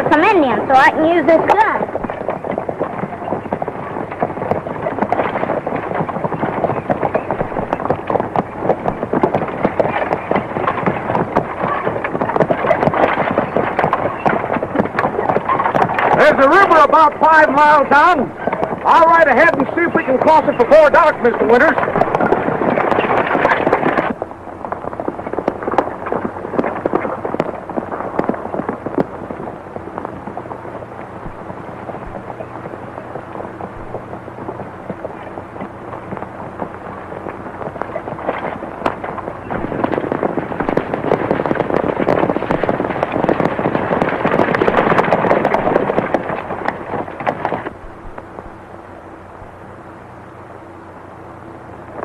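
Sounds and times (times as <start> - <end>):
wagon wheels rolling: 0.0 - 49.5
hooves clattering: 0.0 - 49.8
old film soundtrack crackle: 0.0 - 49.8.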